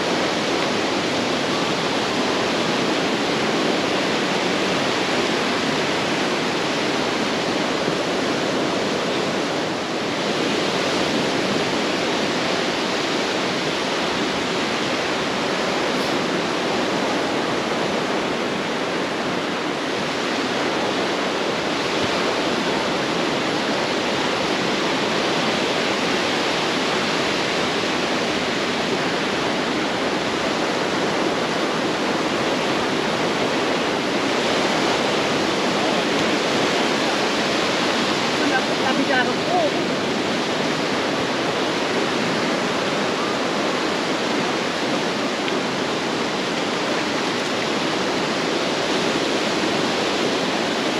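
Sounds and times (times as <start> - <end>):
ocean surf on beach: 0.0 - 50.9.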